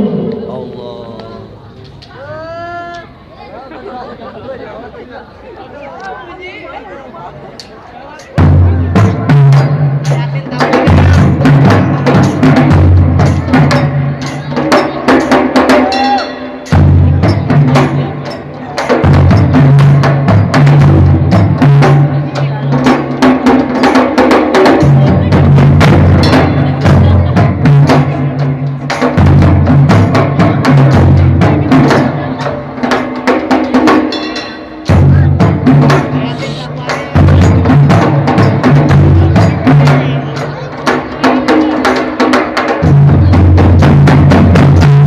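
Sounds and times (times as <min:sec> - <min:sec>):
percussion ensemble playing: 0:00.0 - 0:03.2, 0:07.3 - 0:45.0
heavy low drum: 0:08.4 - 0:45.0.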